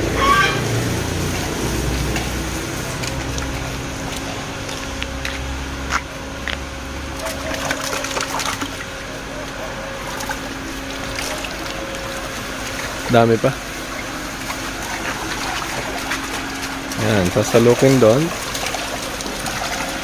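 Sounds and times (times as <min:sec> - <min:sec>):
steady machine hum: 0:00.0 - 0:20.0
water sloshing and splashing: 0:00.0 - 0:20.0.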